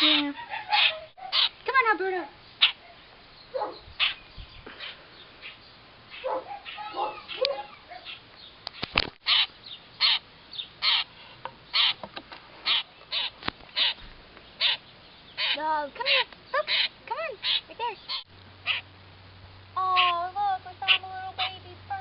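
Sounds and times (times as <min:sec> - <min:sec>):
bird harsh calls: 0:00.0 - 0:01.6, 0:02.4 - 0:18.9, 0:19.9 - 0:20.2.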